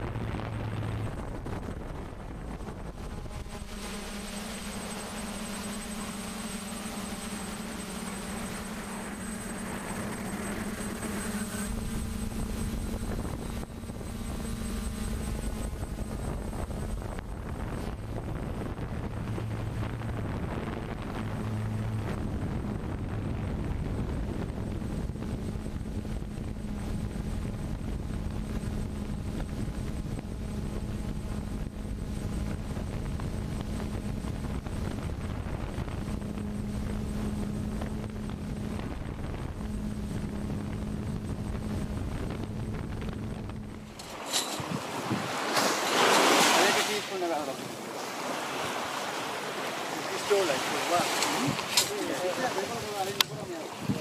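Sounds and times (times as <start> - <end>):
drone propellers buzzing: 0.0 - 54.0.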